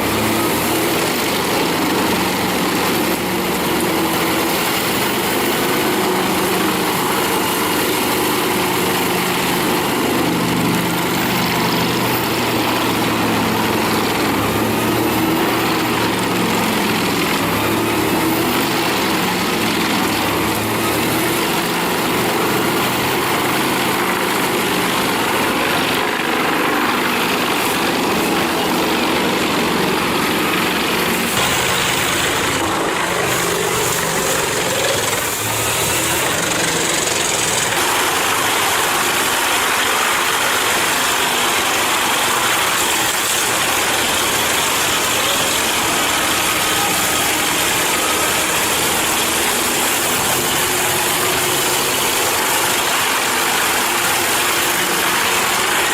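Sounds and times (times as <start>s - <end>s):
wood chipper engine running: 0.0s - 55.9s.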